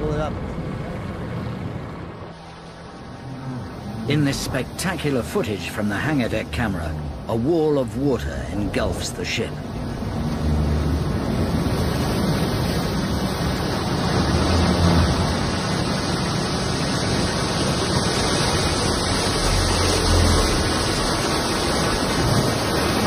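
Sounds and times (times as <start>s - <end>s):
water rushing and surging: 0.0s - 23.0s.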